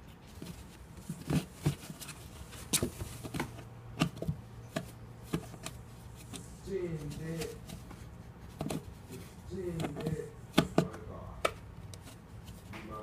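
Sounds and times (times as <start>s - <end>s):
paws scratching on cardboard: 0.0s - 11.0s.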